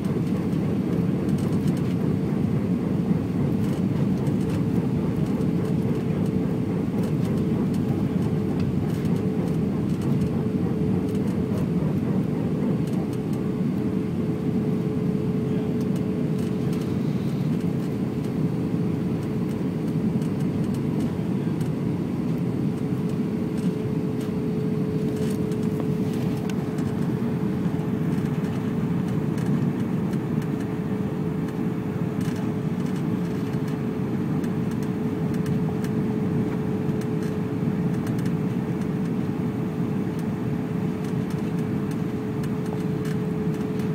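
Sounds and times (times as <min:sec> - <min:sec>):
airliner cabin engine rush: 0:00.0 - 0:43.9
steady hum tone: 0:00.0 - 0:43.9.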